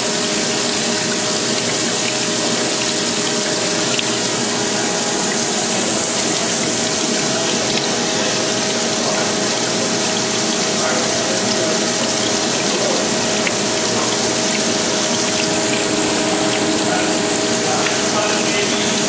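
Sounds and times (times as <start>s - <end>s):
coolant rushing: 0.0s - 19.0s
grinder machine hum: 0.0s - 19.0s.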